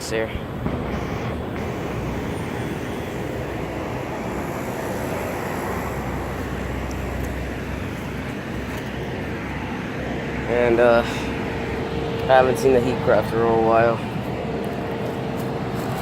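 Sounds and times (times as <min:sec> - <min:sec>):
compressor buzzing hum: 0:00.0 - 0:16.0
condenser fan rushing air: 0:00.0 - 0:16.0.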